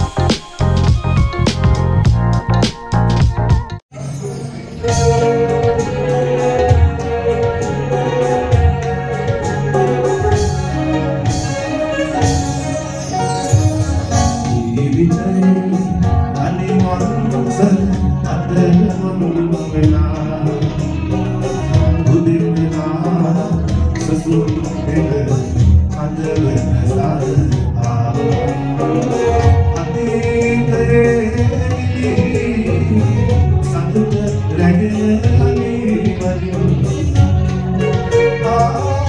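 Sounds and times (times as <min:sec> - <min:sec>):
live band with singing: 0:00.0 - 0:39.0.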